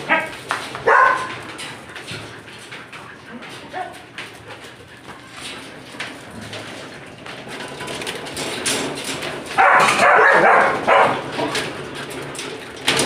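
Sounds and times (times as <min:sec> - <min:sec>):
dogs scuffling: 0:00.0 - 0:13.0.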